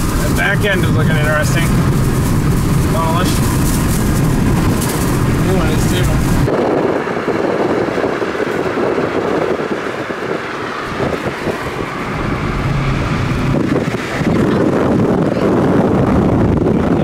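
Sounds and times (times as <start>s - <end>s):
vehicle road noise: 0.0s - 17.0s
wind buffeting microphone: 0.0s - 17.0s.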